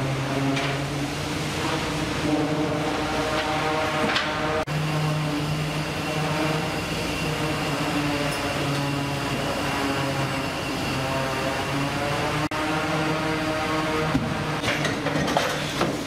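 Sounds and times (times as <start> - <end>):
conveyor machinery humming: 0.0 - 16.0.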